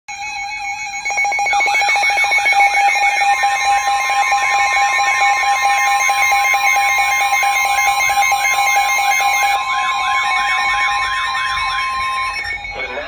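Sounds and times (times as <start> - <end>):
rapid pulsing beeps: 0.1 - 13.0
warbling siren-like tone: 0.1 - 13.0
steady alert tone: 0.2 - 13.0.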